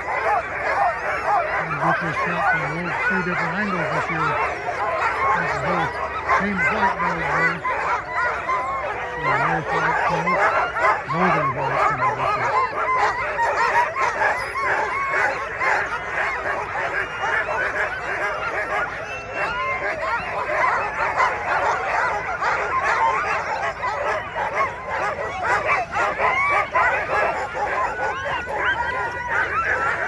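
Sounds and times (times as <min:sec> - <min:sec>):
many dogs barking: 0:00.0 - 0:30.0.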